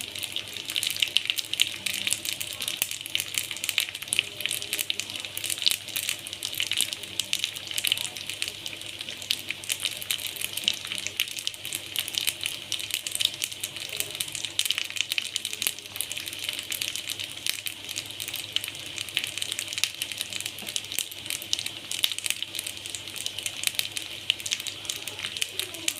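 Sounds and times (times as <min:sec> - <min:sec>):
hot oil sizzling: 0:00.0 - 0:25.9.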